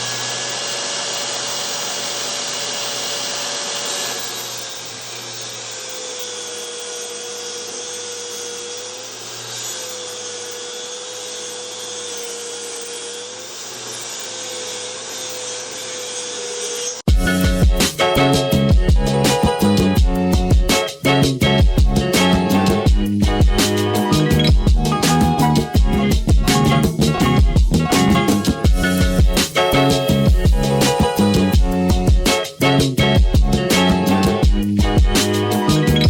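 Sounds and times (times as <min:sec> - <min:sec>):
electric sander on wood: 0:00.0 - 0:36.0.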